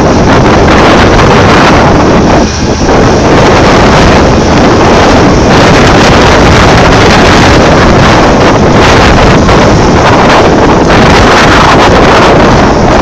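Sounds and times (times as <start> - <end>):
excavator machine noise: 0.0 - 13.0
wind buffeting microphone: 0.0 - 13.0.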